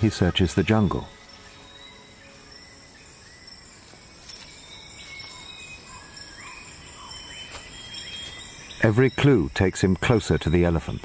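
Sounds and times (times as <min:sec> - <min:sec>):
high-pitched insect drone: 0:00.0 - 0:11.0
rising whistled calls: 0:00.0 - 0:11.0.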